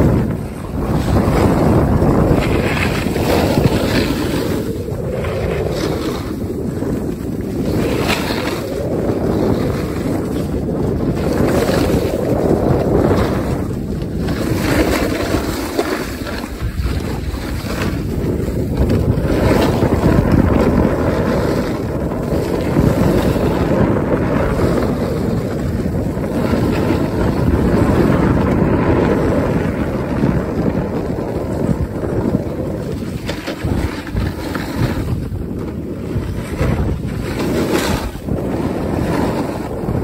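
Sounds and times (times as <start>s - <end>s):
sliding over packed snow: 0.0s - 40.0s
wind over microphone: 0.0s - 40.0s.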